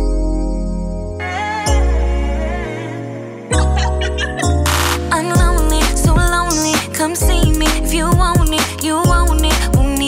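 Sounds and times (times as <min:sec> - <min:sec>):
r and b song with deep bass: 0:00.0 - 0:10.0.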